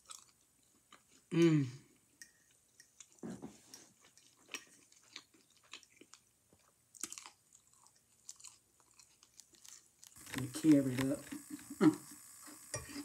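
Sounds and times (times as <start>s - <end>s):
crunchy chewing: 0.0s - 1.3s, 2.0s - 13.0s.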